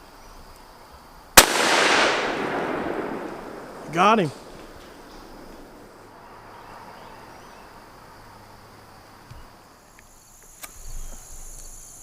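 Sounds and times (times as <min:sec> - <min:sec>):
faint woodland hiss: 0:00.0 - 0:12.0.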